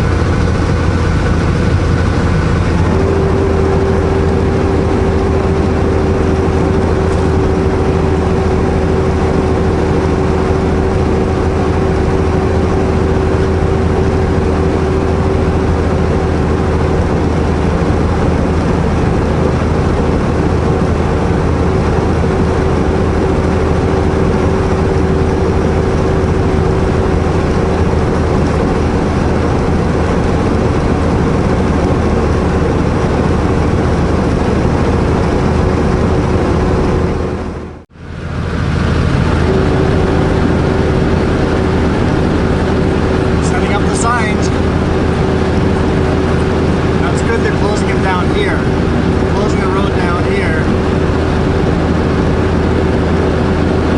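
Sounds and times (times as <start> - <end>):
road noise: 0.0 - 53.9
truck diesel engine drone: 0.0 - 53.9.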